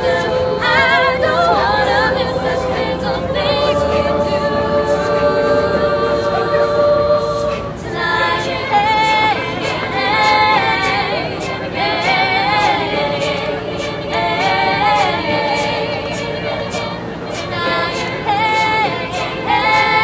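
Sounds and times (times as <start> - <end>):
a cappella group singing: 0.0 - 20.0
crisp ticking beat: 0.0 - 20.0.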